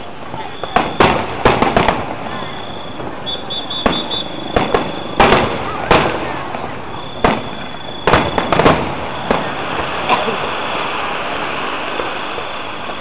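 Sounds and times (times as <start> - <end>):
distant firework bangs: 0.2 - 13.0.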